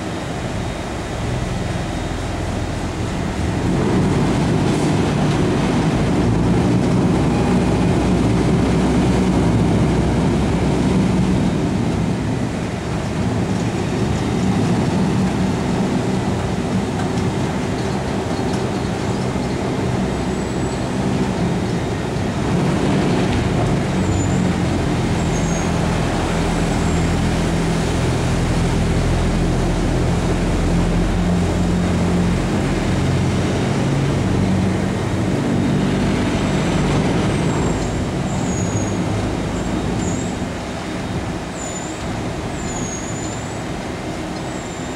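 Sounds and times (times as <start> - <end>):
heavy machinery drone: 0.0 - 44.9.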